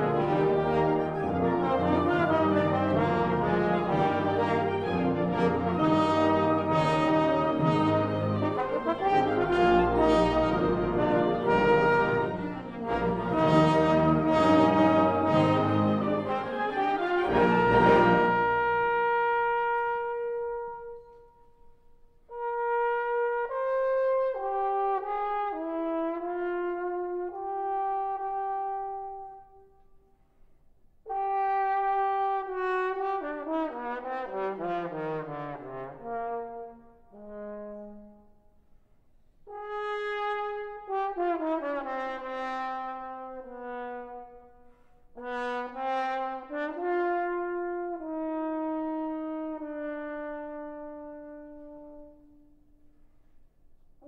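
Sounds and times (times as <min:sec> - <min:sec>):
brass wind band playing: 0:00.0 - 0:21.3, 0:22.3 - 0:29.9, 0:31.0 - 0:38.6, 0:39.4 - 0:52.8.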